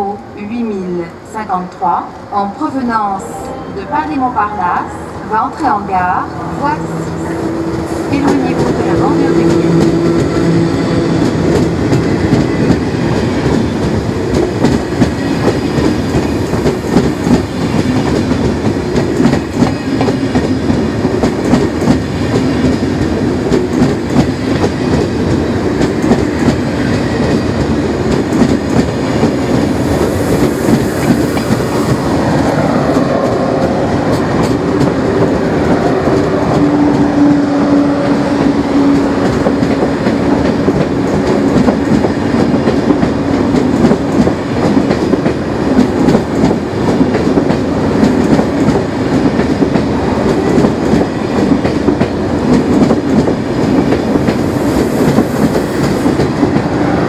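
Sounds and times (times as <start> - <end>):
train wheels on rail: 5.2 - 57.0.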